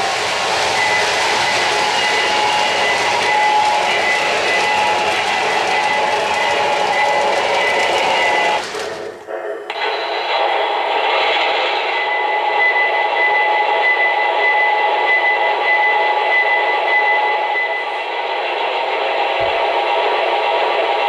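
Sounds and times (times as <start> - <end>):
model trains running: 0.0 - 21.0.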